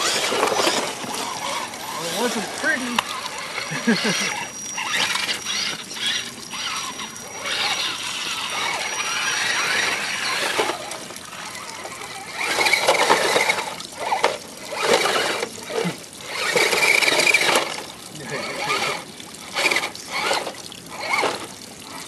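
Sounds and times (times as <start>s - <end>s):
rc truck motors whining: 0.0s - 22.0s
water trickling: 0.0s - 22.0s.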